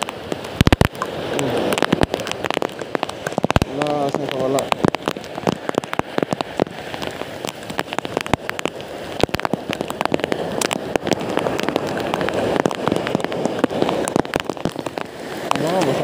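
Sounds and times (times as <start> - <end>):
heavy rain hiss: 0.0 - 16.0
raindrops ticking nearby: 0.0 - 16.0.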